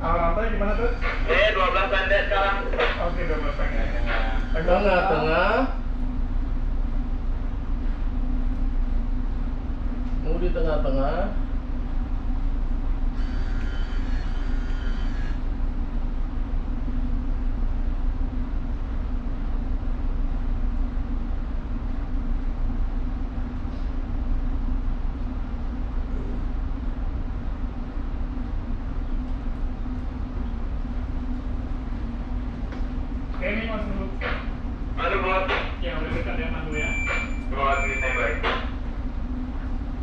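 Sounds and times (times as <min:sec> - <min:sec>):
ship machinery rumble: 0:00.0 - 0:40.0.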